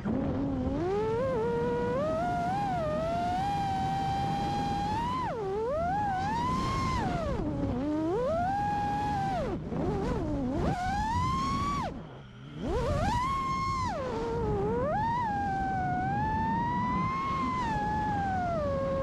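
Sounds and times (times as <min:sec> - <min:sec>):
drone motors high whine: 0:00.0 - 0:19.0.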